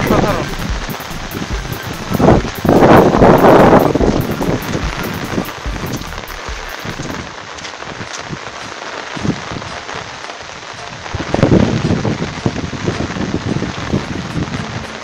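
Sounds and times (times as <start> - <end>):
rain pattering on umbrella: 0.0 - 15.0.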